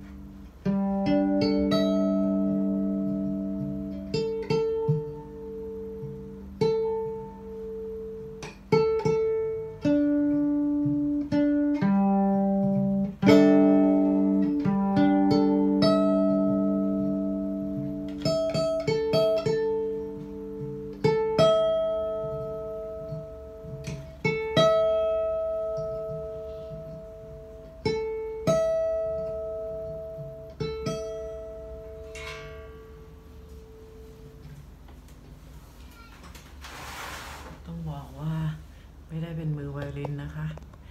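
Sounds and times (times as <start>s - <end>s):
electric violin plucked pizzicato: 0.0s - 34.4s.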